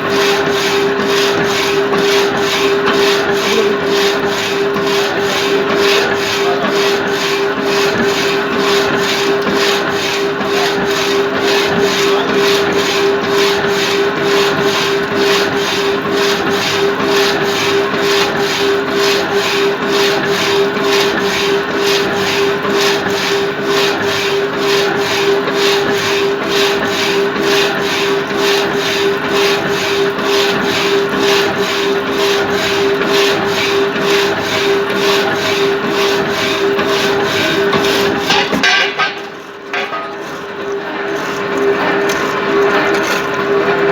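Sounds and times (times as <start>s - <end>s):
reciprocating saw cutting: 0.0s - 43.3s.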